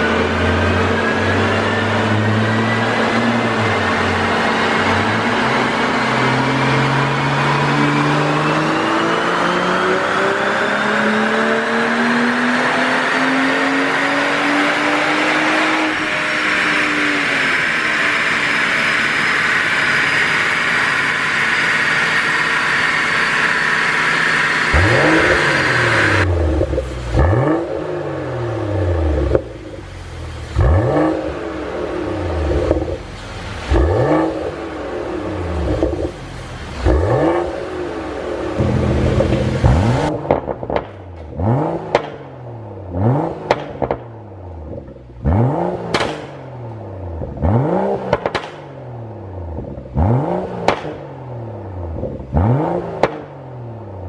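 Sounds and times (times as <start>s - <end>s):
car engine revving at full throttle: 0.0s - 54.0s.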